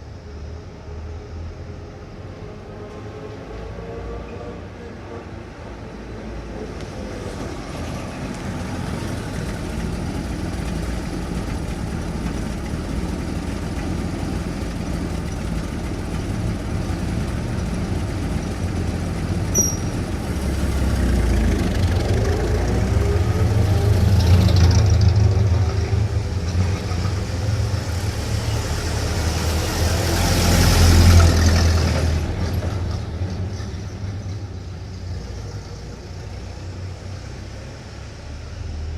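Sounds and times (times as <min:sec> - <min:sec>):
traffic rumble: 0:00.0 - 0:38.9
vehicles passing close: 0:00.0 - 0:38.9.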